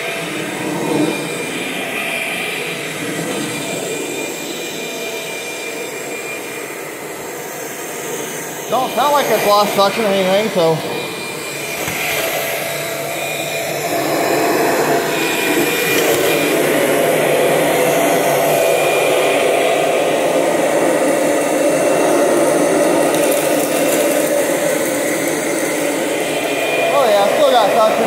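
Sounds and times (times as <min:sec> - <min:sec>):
upright vacuum running: 0:00.0 - 0:28.0.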